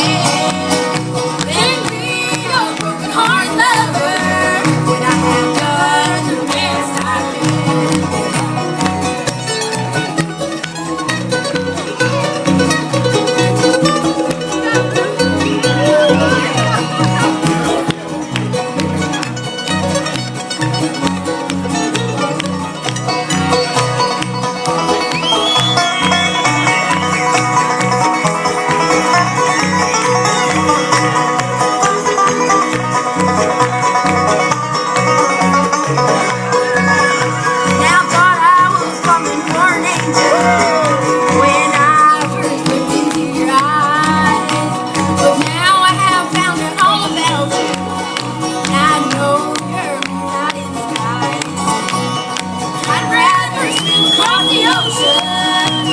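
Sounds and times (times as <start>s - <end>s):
banjo: 0.0s - 55.9s
bluegrass band playing: 0.0s - 55.9s
gliding fiddle line: 0.0s - 55.9s.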